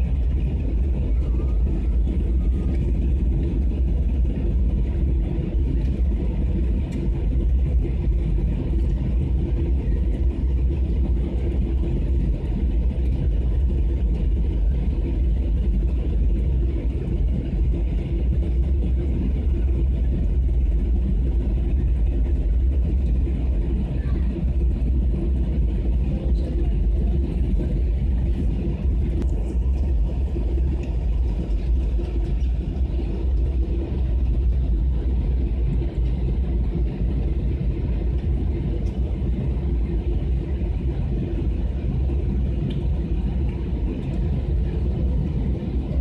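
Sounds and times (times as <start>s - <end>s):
jet engines deep rumble: 0.0s - 46.0s.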